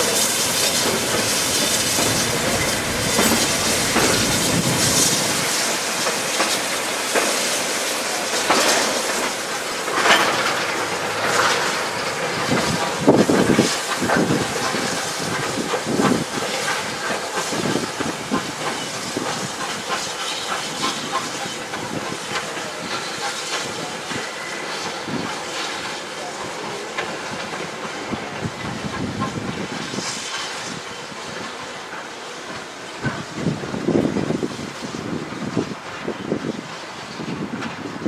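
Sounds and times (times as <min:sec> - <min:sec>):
wagons clattering over rail joints: 0:00.0 - 0:07.5, 0:08.1 - 0:38.0
steam locomotive hissing: 0:00.0 - 0:38.0.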